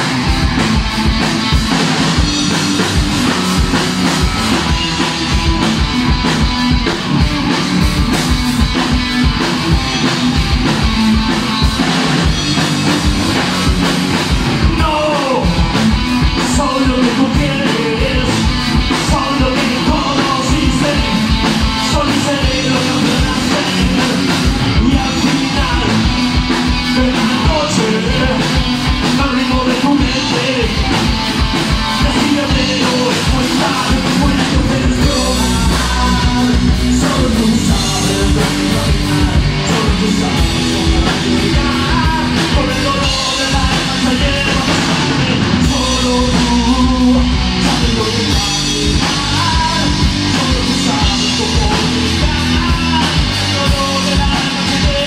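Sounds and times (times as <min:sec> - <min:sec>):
bass guitar: 0:00.0 - 0:55.0
drum kit beat: 0:00.0 - 0:55.0
electric guitar: 0:00.0 - 0:55.0.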